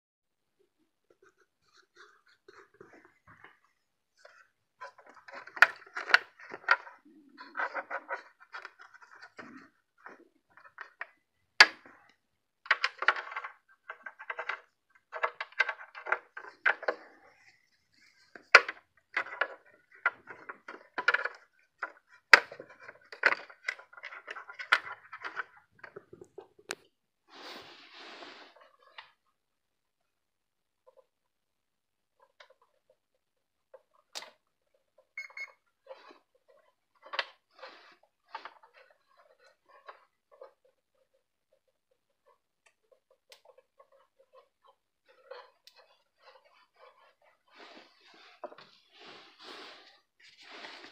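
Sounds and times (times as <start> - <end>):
rustling and scraping: 1.0 - 29.2, 32.2 - 50.9.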